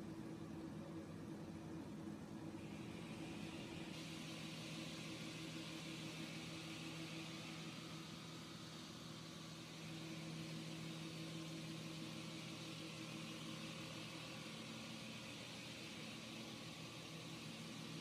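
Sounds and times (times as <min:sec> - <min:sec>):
saw motor hum: 0:02.6 - 0:18.0.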